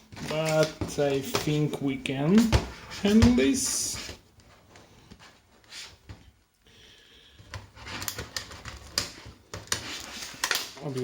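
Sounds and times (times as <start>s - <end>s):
plastic and paper packaging rustling: 0.0s - 6.4s, 7.3s - 11.0s.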